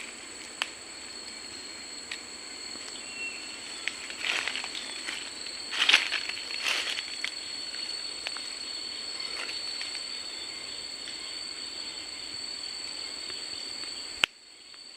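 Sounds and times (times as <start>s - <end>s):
insects trilling: 0.0s - 14.9s.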